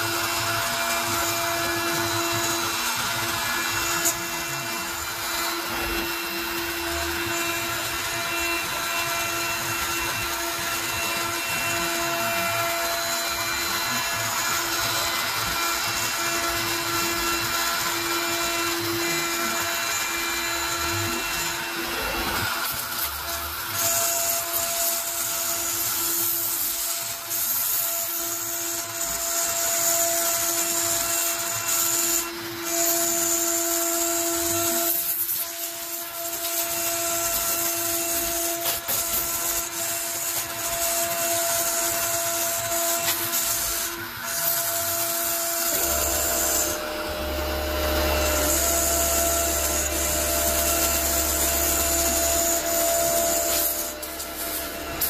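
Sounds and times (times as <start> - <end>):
bit cutting acrylic hiss: 0.0 - 55.0
router spindle whine: 0.0 - 55.0.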